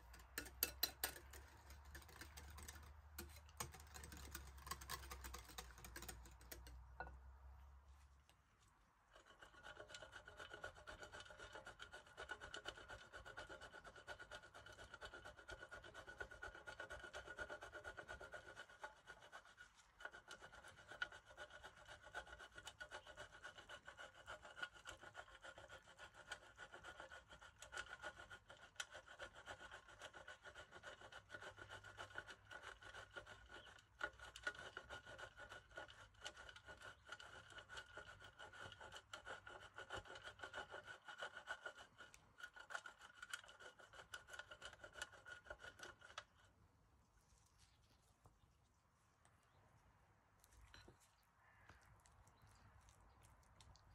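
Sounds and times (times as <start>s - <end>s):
cheese grating on metal grater: 0.0s - 6.9s, 9.1s - 46.6s.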